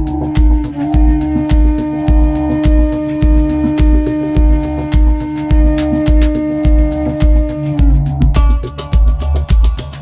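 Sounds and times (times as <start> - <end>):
held synth tone: 0.0 - 8.6
kick drum: 0.0 - 9.9
electronic music: 0.0 - 10.0
ticking hi-hats: 0.0 - 10.0.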